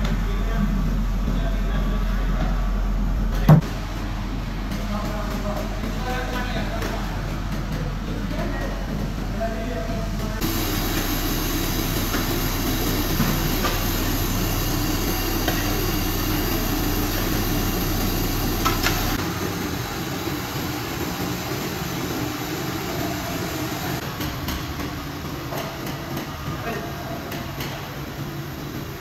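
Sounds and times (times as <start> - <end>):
steady rumbling background noise: 0.0 - 29.0.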